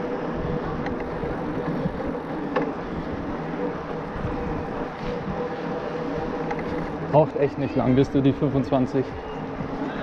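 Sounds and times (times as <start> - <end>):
motor hum: 0.0 - 10.0
wind and tyre noise: 0.0 - 10.0.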